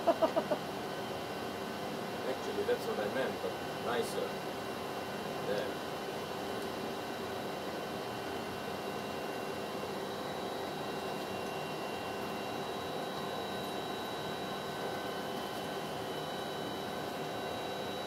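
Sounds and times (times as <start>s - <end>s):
faint steady whining tones: 0.0s - 18.0s
ventilation fans hissing and humming: 0.0s - 18.0s.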